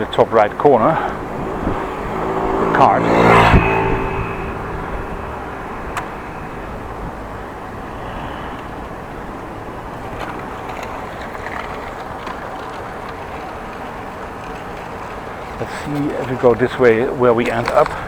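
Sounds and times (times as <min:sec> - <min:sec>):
bicycle rolling rumble: 0:00.0 - 0:18.0
wind on camera: 0:00.5 - 0:18.0.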